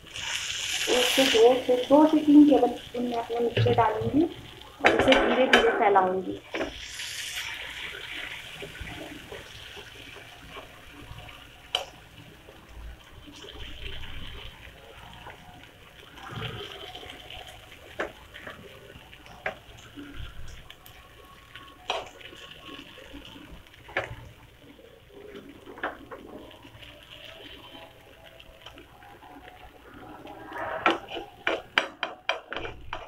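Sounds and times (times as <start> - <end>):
batter sizzling in hot oil: 0.0 - 33.0.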